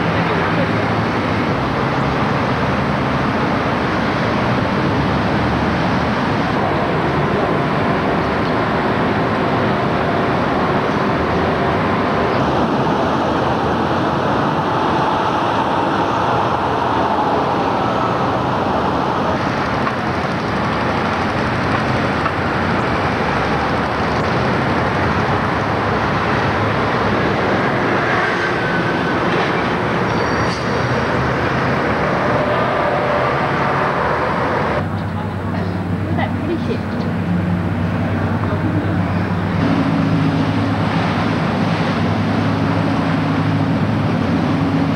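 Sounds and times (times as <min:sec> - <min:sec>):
heavy road traffic: 0:00.0 - 0:44.9.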